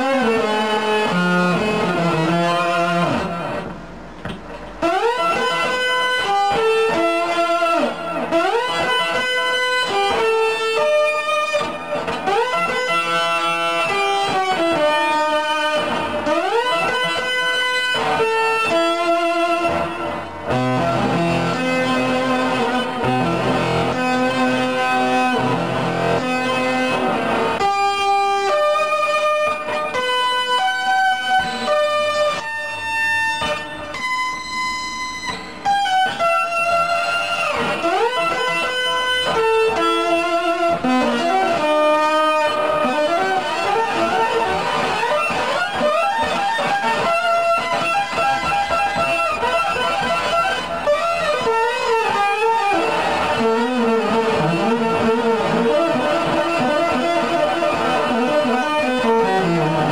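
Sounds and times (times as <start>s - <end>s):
electric guitar solo: 0.0s - 59.9s.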